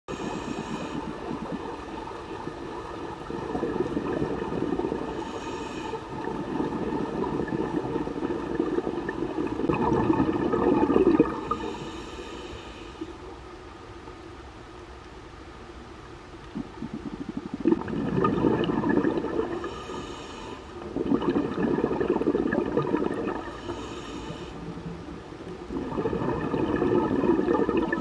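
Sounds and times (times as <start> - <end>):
underwater rushing and bubbling: 0.1 - 13.7, 15.8 - 28.0.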